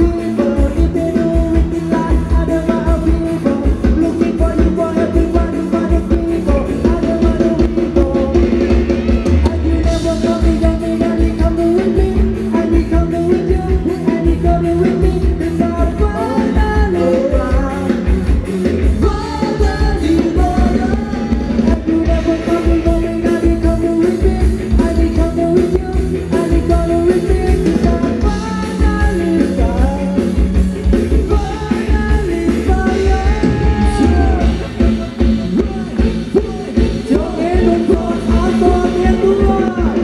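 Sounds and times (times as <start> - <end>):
person singing: 0.0 - 40.0
steady drum beat: 0.0 - 40.0.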